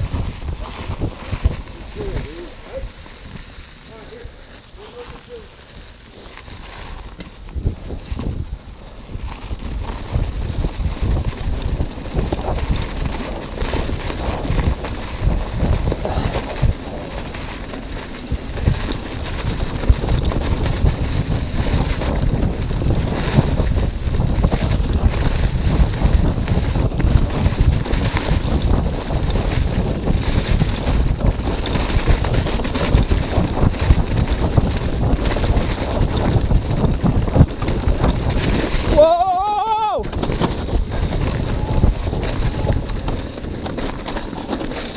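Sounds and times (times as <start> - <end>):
wind buffeting microphone: 0.0 - 4.3, 7.0 - 44.9
mountain bike rattling and thumping: 0.0 - 44.9.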